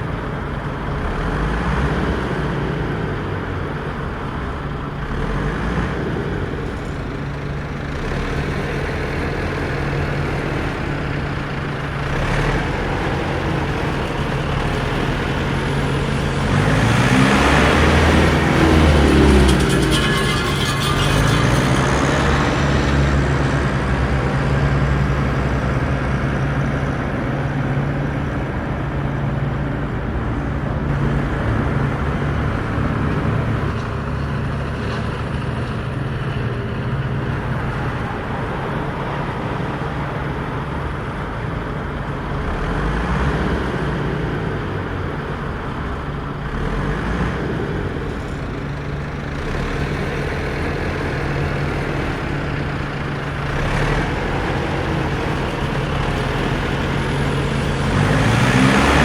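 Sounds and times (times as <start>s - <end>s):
tyre and road noise: 0.0s - 59.0s
vehicle engine humming: 0.0s - 59.0s.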